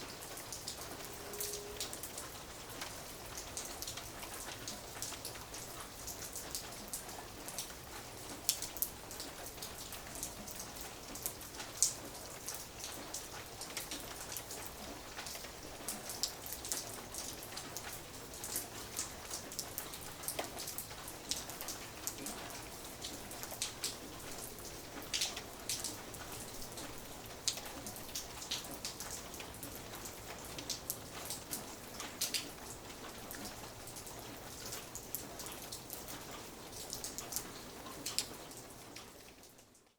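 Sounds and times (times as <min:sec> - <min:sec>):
light rain falling: 0:00.0 - 0:39.9
raindrops ticking on a surface: 0:00.0 - 0:39.9.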